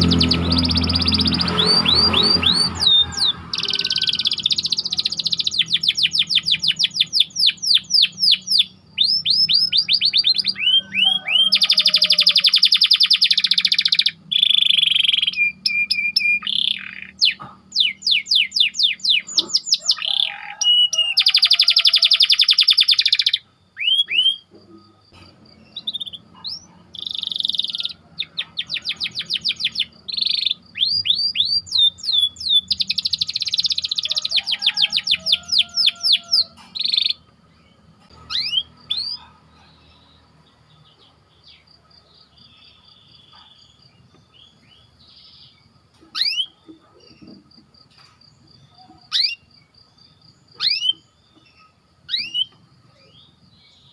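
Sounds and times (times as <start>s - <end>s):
canary trilling: 0.0s - 41.6s, 42.3s - 47.2s, 48.7s - 49.6s, 50.5s - 53.4s.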